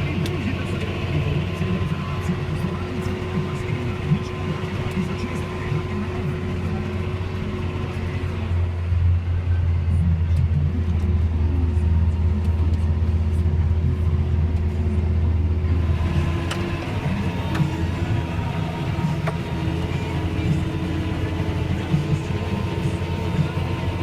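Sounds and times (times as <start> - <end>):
tractor diesel engine rumbling: 0.0 - 24.0.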